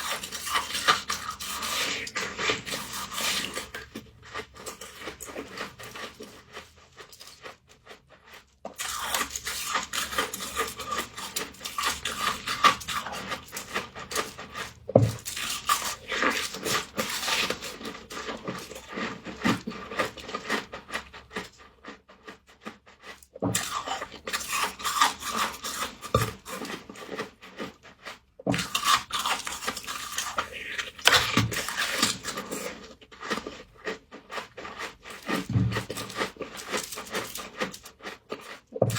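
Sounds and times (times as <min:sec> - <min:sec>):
frost crunching while eaten: 0:00.0 - 0:38.9.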